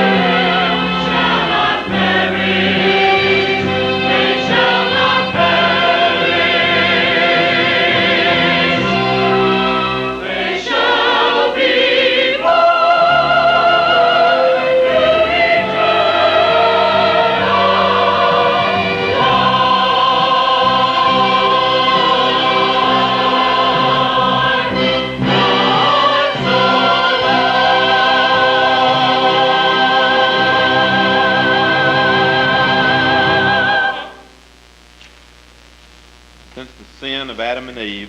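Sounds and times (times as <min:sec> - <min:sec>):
choir singing in parts: 0:00.0 - 0:34.2.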